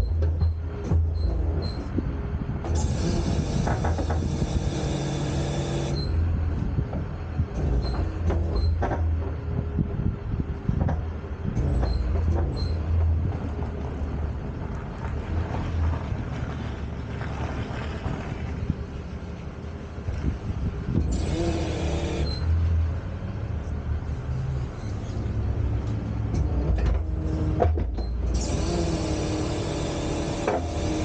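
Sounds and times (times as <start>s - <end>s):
tow truck engine running: 0.0s - 31.0s.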